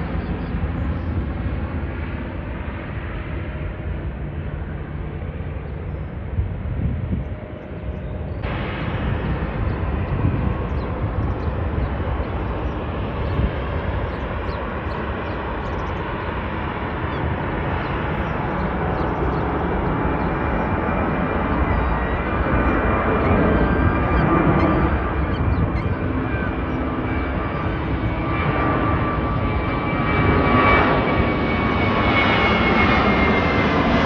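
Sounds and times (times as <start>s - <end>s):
jet airliner taking off: 0.0s - 34.0s.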